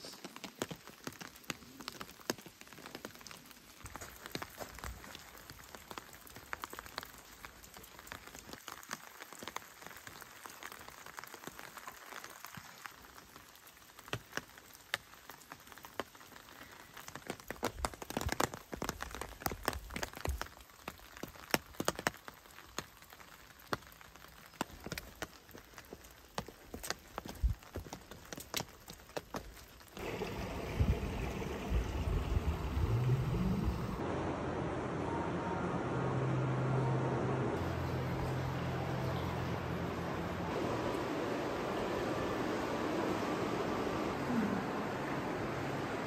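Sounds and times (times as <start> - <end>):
light rain hissing: 0.0 - 46.0.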